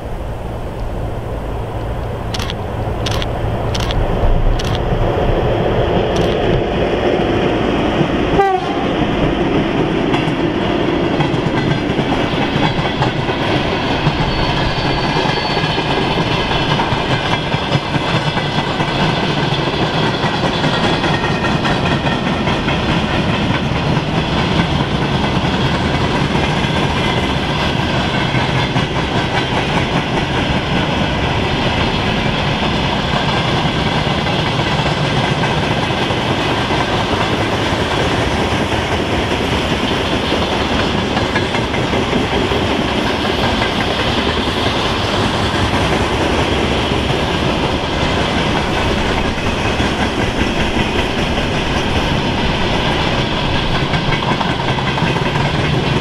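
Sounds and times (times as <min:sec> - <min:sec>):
freight train rolling past: 0:00.0 - 0:56.0
wheels clacking on rail joints: 0:07.9 - 0:56.0.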